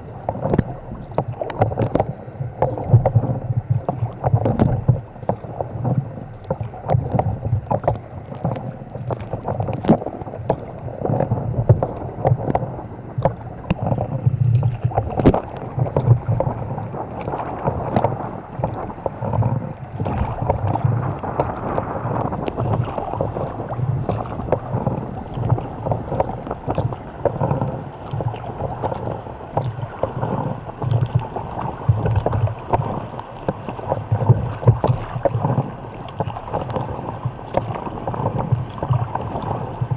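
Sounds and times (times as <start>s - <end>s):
paddle strokes in water: 0.0s - 39.9s
water slapping against hull: 0.0s - 39.9s.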